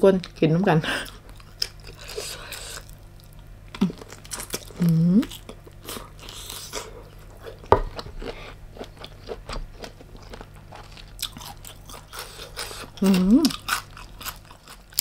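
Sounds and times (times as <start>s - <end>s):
chewing and crunching prawn: 1.0s - 15.0s.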